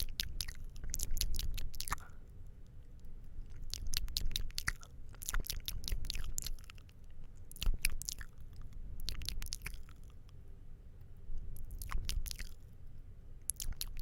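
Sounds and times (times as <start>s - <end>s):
mouth clicks and smacks: 0.0s - 2.2s, 2.9s - 10.4s, 11.4s - 12.6s, 13.4s - 14.0s.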